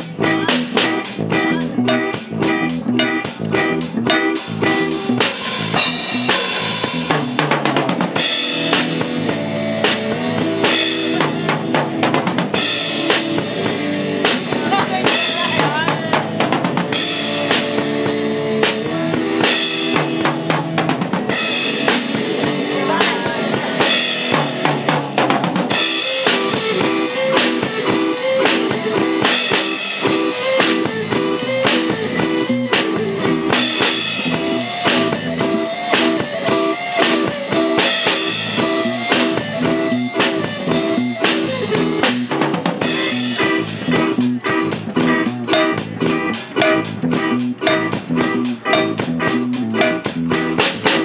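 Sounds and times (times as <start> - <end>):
band playing instrumental: 0.0 - 51.0
drum kit beat: 0.0 - 51.0.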